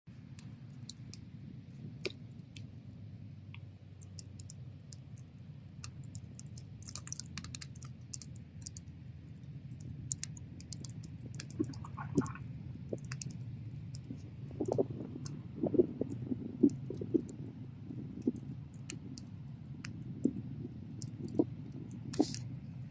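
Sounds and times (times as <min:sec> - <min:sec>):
bonfire crackling and popping: 0:00.1 - 0:22.9
low rumble of flames: 0:00.1 - 0:22.9.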